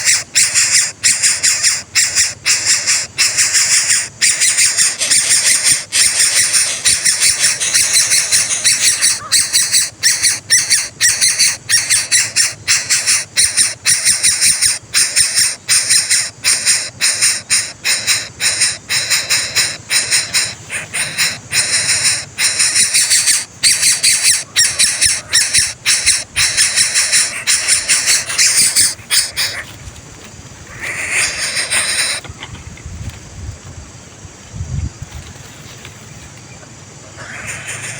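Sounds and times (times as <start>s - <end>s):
chicks raspy begging calls: 0.0s - 29.9s, 30.6s - 32.5s, 37.0s - 37.9s.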